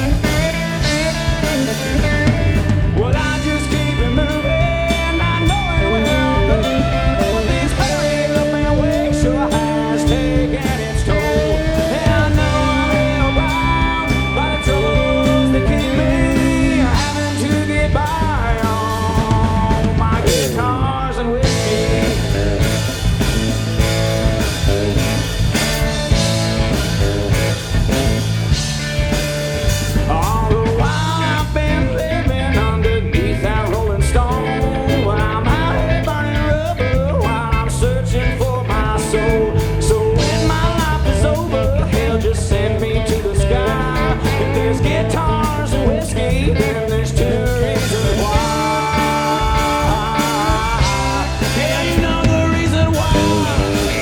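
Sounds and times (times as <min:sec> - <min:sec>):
country-rock band playing: 0:00.0 - 0:54.0.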